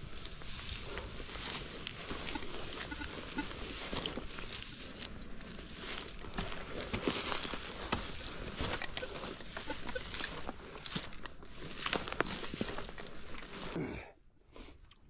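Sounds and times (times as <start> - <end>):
footsteps on stony ground: 0.0 - 13.8
scrapes and rustles: 0.0 - 13.8.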